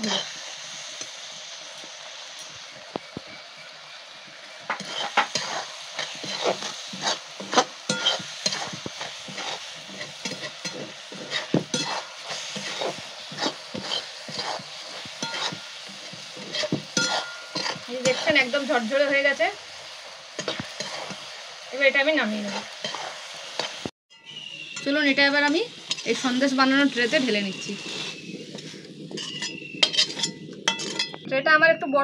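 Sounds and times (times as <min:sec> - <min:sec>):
metal spatula scraping wok: 0:00.0 - 0:31.2
steady sizzle: 0:00.0 - 0:32.0.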